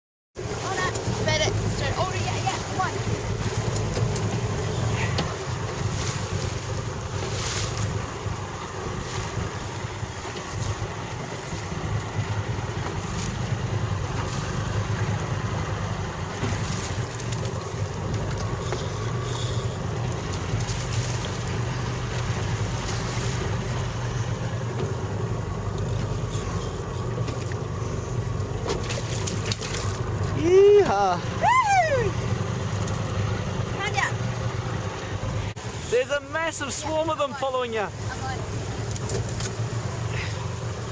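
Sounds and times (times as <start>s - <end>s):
boat engine running: 0.4s - 40.9s
water noise: 0.4s - 40.9s.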